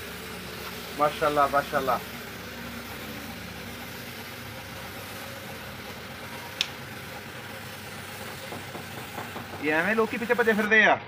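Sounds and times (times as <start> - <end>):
low motor hum: 0.0 - 10.7
paint spray gun hissing: 0.0 - 10.8.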